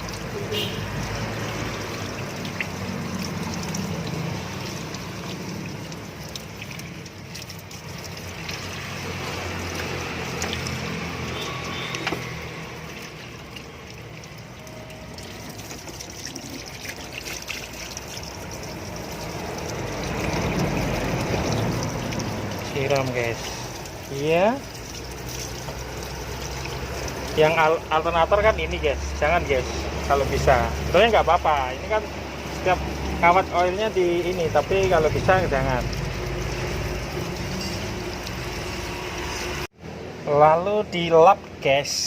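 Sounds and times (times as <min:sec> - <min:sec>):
water splashing over engine: 0:00.0 - 0:39.7.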